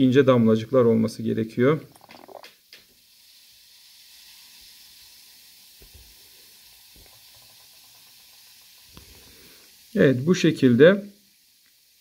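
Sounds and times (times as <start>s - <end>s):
gas fizzing hiss: 0.0s - 12.0s.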